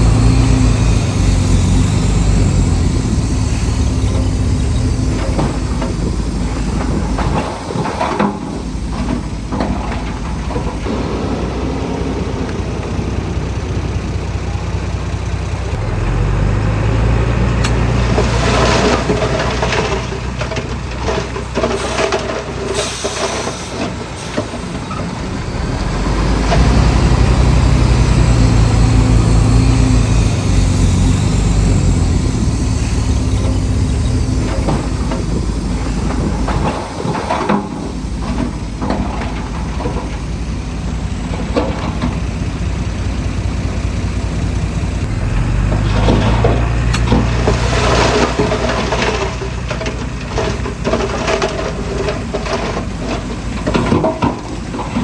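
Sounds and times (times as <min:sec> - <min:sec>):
tracks and blade clanking: 0:00.0 - 0:16.1, 0:17.6 - 0:55.0
bulldozer diesel engine: 0:00.0 - 0:55.0.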